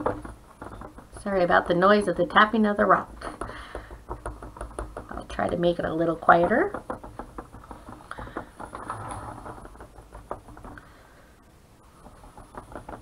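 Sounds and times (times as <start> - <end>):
paintbrush tapping on rock: 0.0 - 8.8, 9.4 - 10.9, 12.0 - 13.0.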